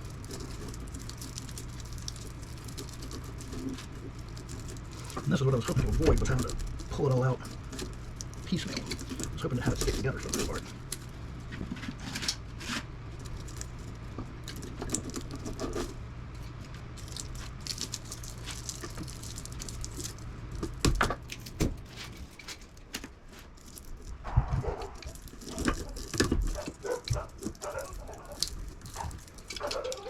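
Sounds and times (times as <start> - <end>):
low steady hum: 0.0 - 30.0
metal clinking and scraping: 0.0 - 30.0.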